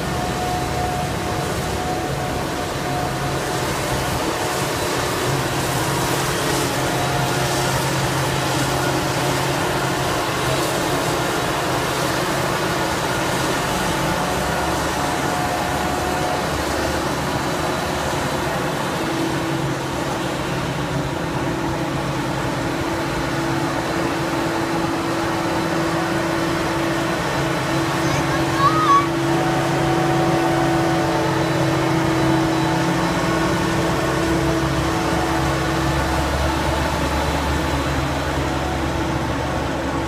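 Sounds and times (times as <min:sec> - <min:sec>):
harvester engine and chopping drone: 0:00.0 - 0:40.0
tractor running: 0:00.0 - 0:40.0.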